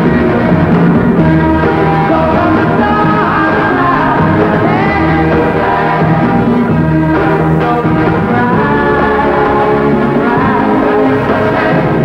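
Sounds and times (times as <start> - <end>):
rock music with singing: 0.0 - 12.0.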